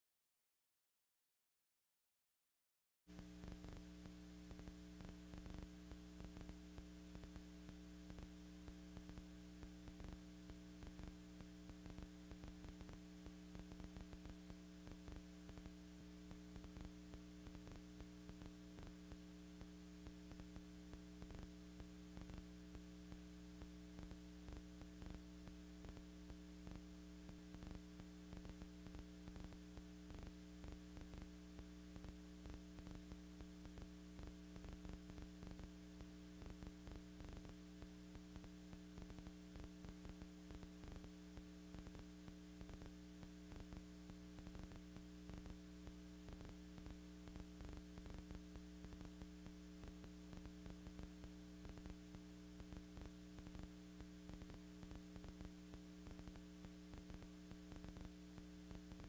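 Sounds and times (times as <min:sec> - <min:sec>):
faint hum with hiss: 0:03.1 - 0:59.0
small crackling clicks: 0:03.2 - 0:59.0.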